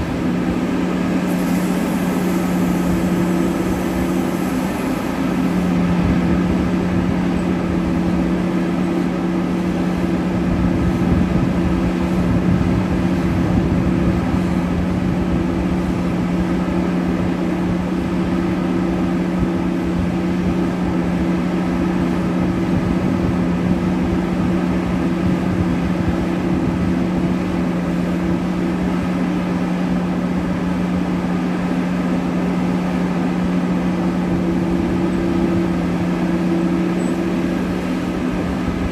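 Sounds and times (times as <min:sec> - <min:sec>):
large diesel engines droning: 0:00.0 - 0:38.9.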